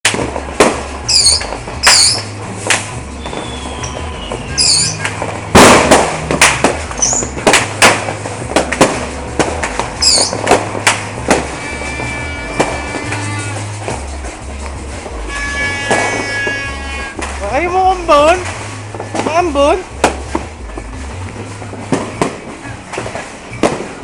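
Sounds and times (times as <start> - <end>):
fireworks bangs: 0.0 - 24.0
music: 0.0 - 24.0
fireworks whistling: 0.1 - 24.0.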